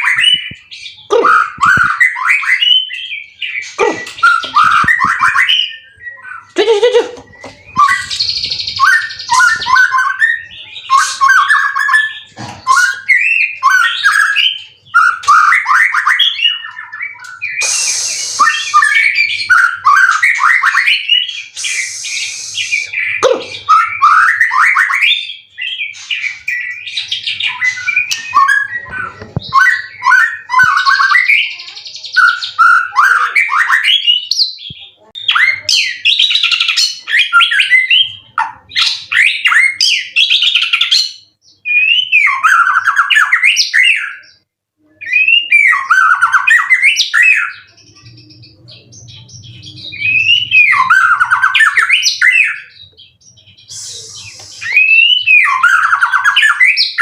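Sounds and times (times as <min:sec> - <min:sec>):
bird singing whistles and trills: 0:00.0 - 0:06.6, 0:07.2 - 0:57.0.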